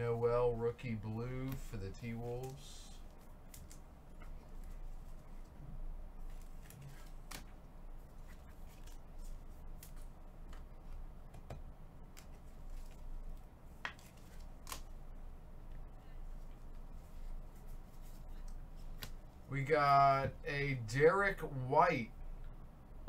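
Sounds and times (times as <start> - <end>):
light rustling of card packs: 0.0 - 11.3, 12.0 - 21.2
low steady hum: 0.0 - 23.0.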